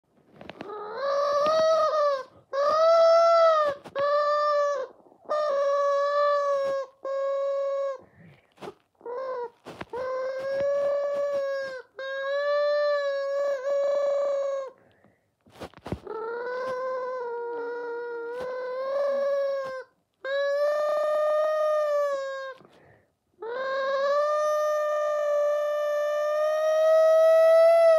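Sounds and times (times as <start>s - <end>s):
rubber chicken toy squawking: 0.4s - 14.8s, 15.5s - 22.7s, 23.4s - 27.9s.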